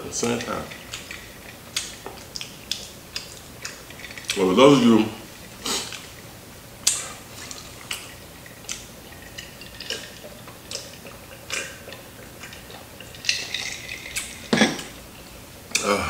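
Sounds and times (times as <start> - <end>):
person gulping a drink: 0.3 - 6.2, 6.8 - 15.0.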